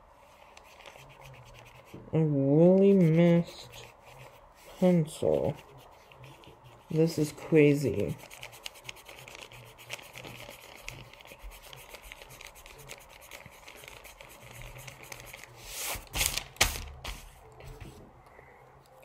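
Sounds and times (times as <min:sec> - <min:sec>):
eraser rubbing on paper: 0:00.2 - 0:16.4.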